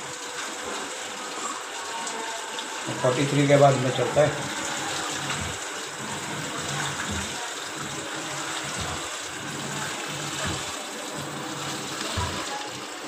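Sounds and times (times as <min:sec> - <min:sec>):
water gushing into washing machine: 0:00.0 - 0:13.0.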